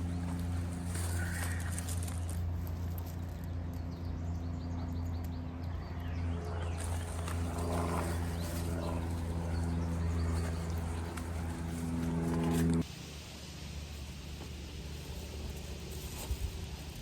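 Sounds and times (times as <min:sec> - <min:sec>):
low multi-tone hum: 0:00.0 - 0:17.0.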